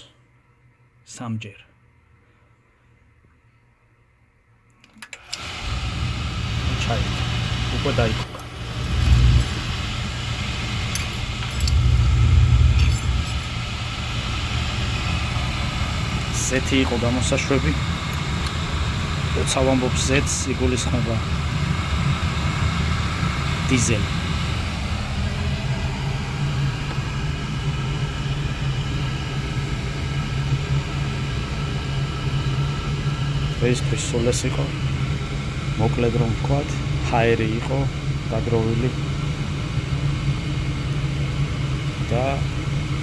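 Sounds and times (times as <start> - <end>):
oil burner rumbling: 5.2 - 43.0.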